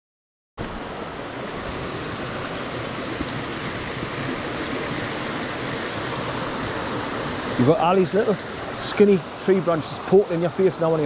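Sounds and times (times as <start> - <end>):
stream and waterfall rushing: 0.6 - 11.0.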